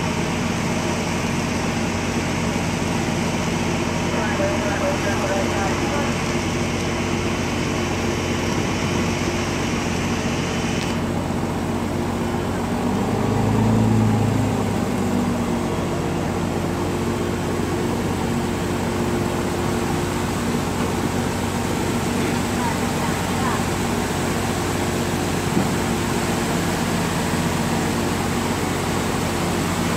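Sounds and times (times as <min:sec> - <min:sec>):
boat engine droning: 0:00.0 - 0:29.9.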